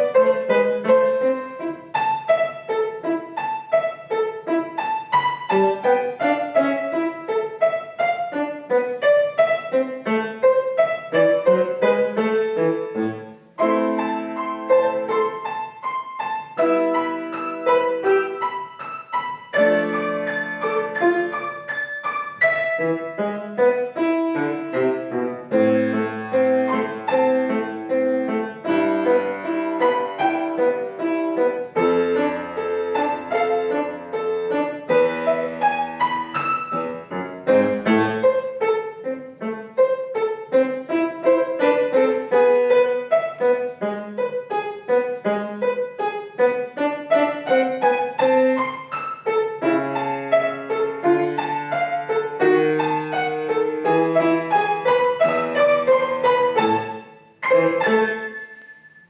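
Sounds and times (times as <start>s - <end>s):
piano duet lively piece: 0.0s - 59.0s.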